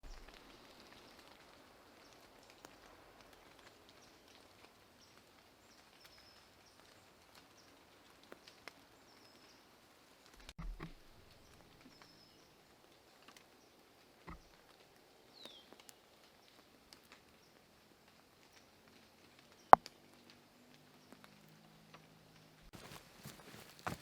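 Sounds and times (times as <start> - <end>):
light rain hiss: 0.0 - 24.0.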